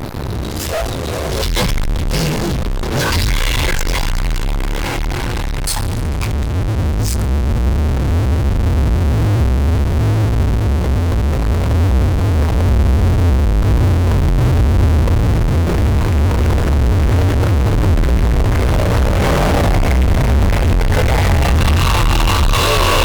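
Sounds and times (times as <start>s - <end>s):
distorted electronic music: 0.0s - 23.0s
distorted low drone: 0.0s - 23.0s.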